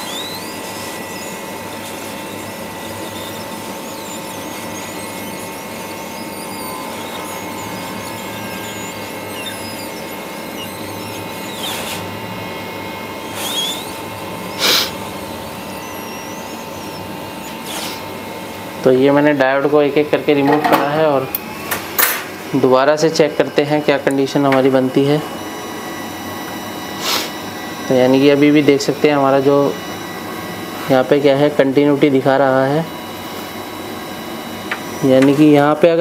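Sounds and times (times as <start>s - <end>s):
hot air station fan hiss: 0.0s - 36.0s.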